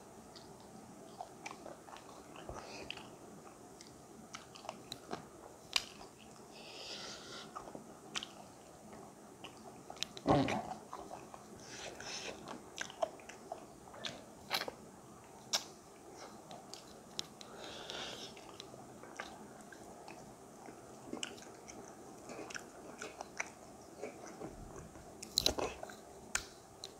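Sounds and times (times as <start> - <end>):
chewing smacks: 0.3 - 6.5, 7.5 - 14.8, 15.5 - 26.9.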